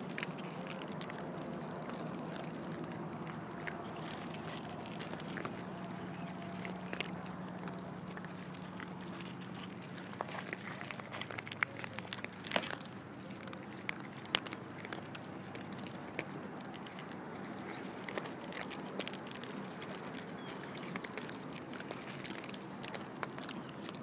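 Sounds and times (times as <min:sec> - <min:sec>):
cats crunching dry food: 0:00.0 - 0:24.0.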